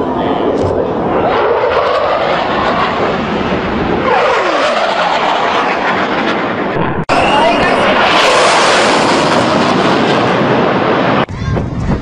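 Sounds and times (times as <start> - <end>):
fighter jet roaring past: 0.0 - 11.3.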